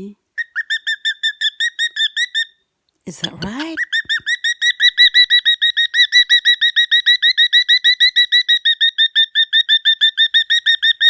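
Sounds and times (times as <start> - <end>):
cockatiel chirping: 0.4 - 2.6, 3.2 - 11.0.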